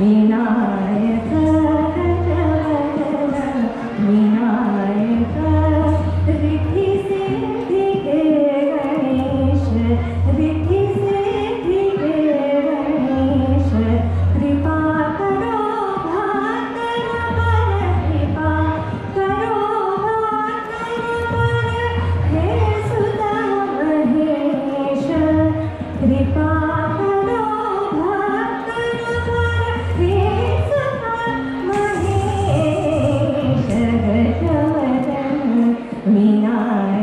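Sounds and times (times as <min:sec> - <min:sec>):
instrumental accompaniment: 0:00.0 - 0:37.0
woman singing into a microphone: 0:00.0 - 0:37.0.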